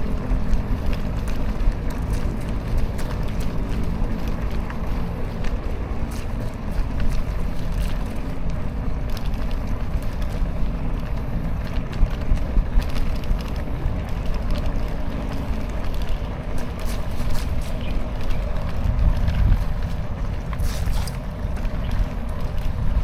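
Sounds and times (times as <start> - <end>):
light clicks and rattles: 0.0 - 23.0
tyres on road: 0.0 - 23.0
wind on microphone: 0.0 - 23.0.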